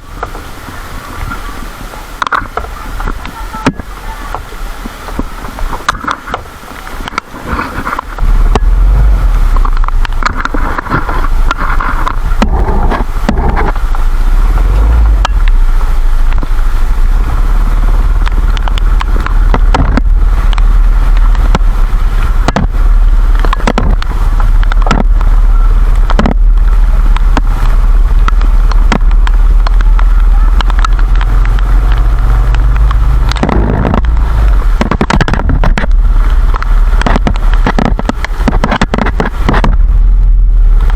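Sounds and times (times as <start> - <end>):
heavy rain pattering: 0.0 - 40.9
wind buffeting microphone: 0.0 - 40.9.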